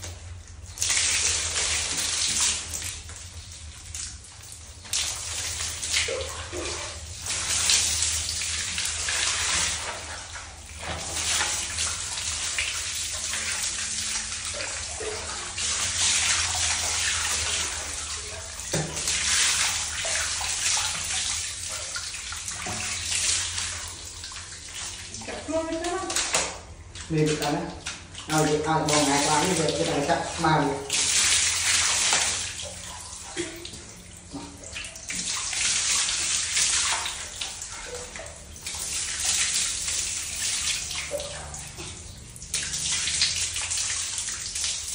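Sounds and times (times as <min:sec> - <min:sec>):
water splashing on tiled floor: 0:00.0 - 0:44.9.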